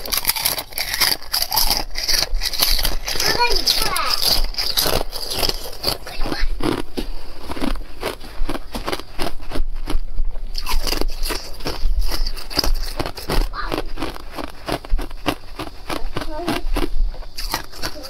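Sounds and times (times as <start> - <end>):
ice crunching between teeth: 0.0 - 18.0.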